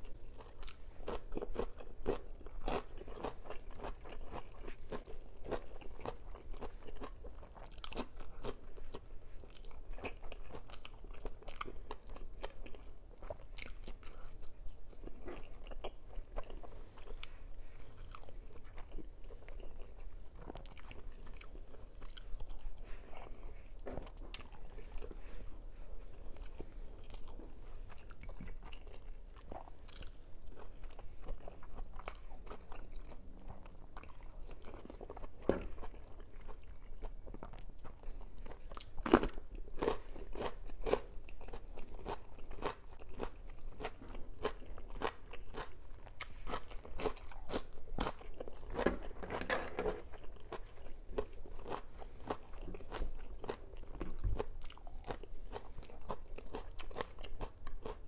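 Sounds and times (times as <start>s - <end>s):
chewing and biting sausage: 0.0s - 48.9s, 50.0s - 58.0s.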